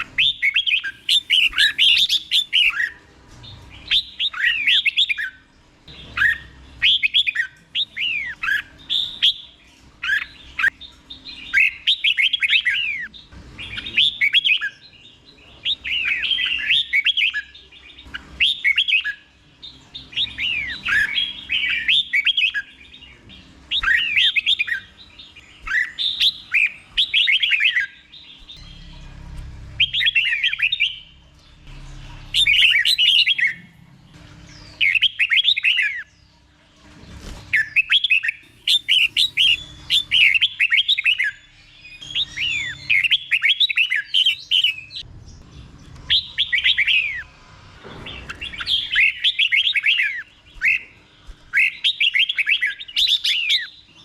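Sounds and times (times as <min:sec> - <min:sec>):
bird singing sweeping notes: 0:00.0 - 0:36.3, 0:37.5 - 0:54.0.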